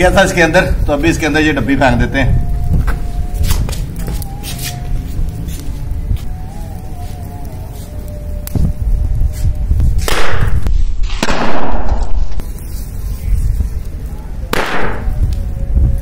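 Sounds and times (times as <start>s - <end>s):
firecrackers bursting: 0.0s - 15.8s
wind rumble on microphone: 0.0s - 16.0s.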